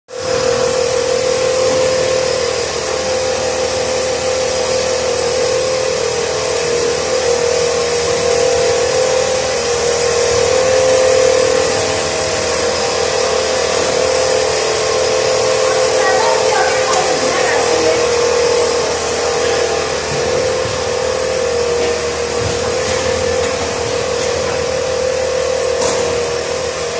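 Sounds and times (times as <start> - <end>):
constant machine whine: 0.1 - 26.9
machine line hum and rush: 0.1 - 26.9.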